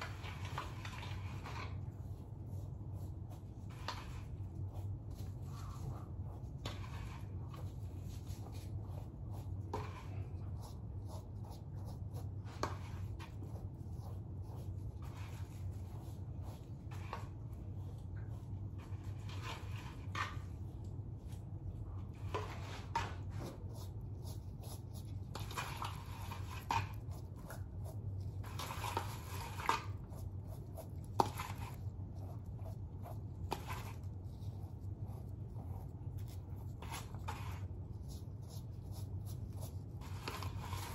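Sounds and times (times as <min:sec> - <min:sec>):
hair rustling and handling: 0:00.0 - 0:40.9
steady low hum: 0:00.0 - 0:40.9.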